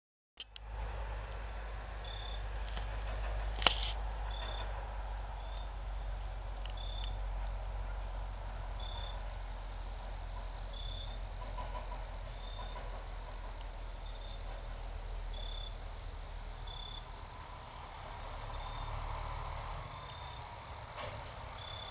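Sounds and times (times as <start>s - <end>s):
low rumble: 0.4s - 21.9s.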